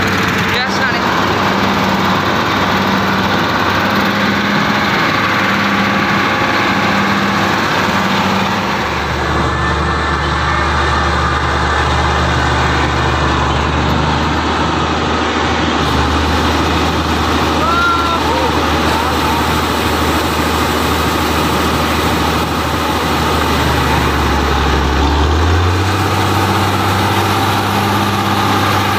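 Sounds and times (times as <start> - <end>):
combine harvester running: 0.0 - 28.9.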